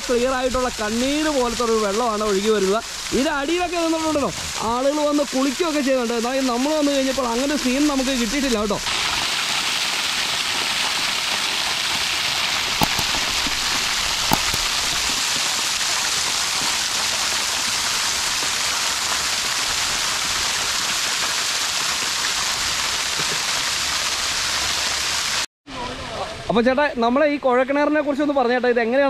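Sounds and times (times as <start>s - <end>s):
water gushing and splashing: 0.2s - 25.4s.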